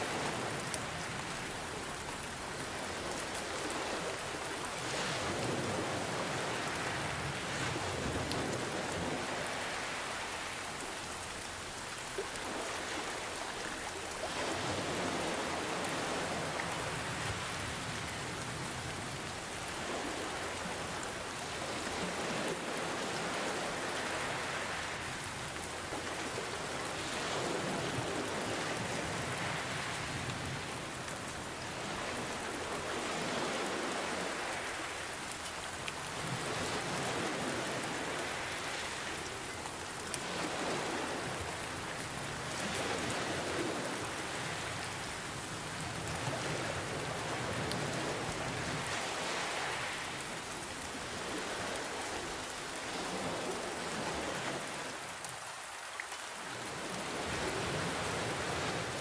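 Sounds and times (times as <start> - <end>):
gentle ocean waves: 0.0 - 59.0
rain falling: 0.0 - 59.0.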